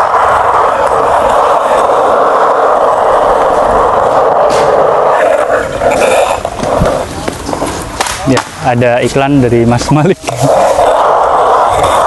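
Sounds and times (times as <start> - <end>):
bearings grinding on concrete: 0.0 - 8.8, 9.7 - 12.0.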